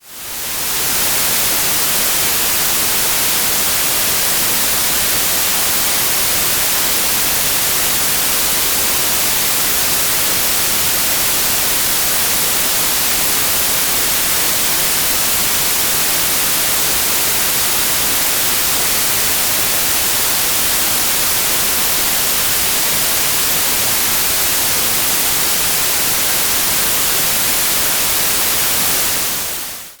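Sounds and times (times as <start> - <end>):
white noise hiss: 0.0 - 30.0.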